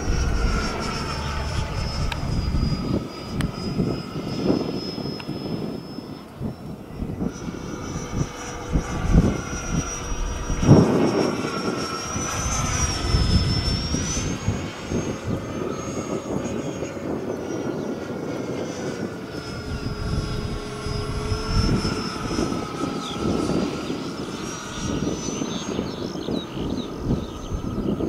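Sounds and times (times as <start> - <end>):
model jet fan whining overhead: 0.0 - 28.0
wind buffeting microphone: 0.0 - 28.0.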